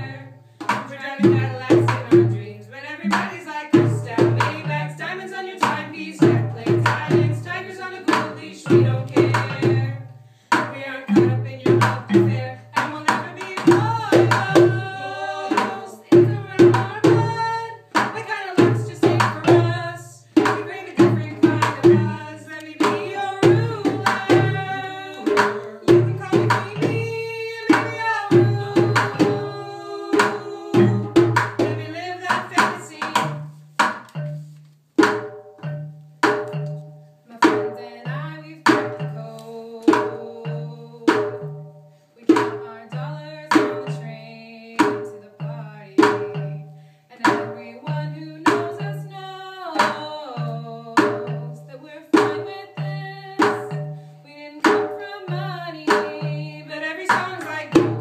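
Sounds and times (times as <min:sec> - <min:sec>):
voices singing: 0:00.0 - 0:33.5, 0:37.3 - 0:41.4, 0:47.1 - 0:58.0
hits on plastic bucket drum: 0:00.6 - 0:02.4, 0:03.0 - 0:34.4, 0:35.0 - 0:36.8, 0:42.3 - 0:44.1, 0:44.8 - 0:58.0.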